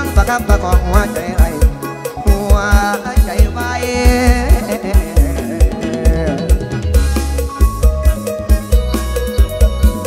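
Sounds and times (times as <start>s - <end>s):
band melody line: 0.0s - 10.0s
steady kick drum beat: 0.0s - 10.0s.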